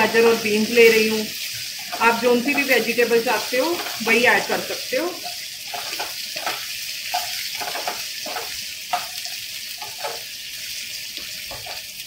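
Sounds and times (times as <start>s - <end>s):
vegetables sizzling in hot oil: 0.0s - 12.0s
wooden spatula scraping: 0.1s - 9.1s, 9.8s - 10.3s, 11.5s - 11.9s.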